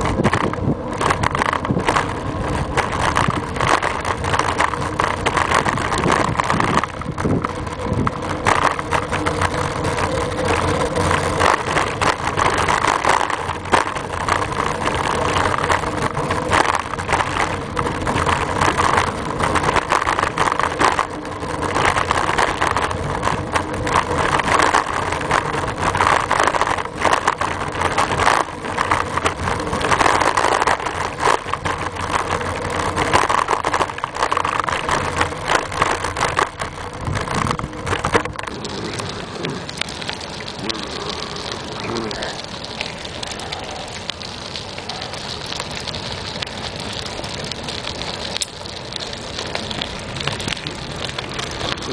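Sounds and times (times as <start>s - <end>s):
road and wind noise: 0.0s - 51.9s.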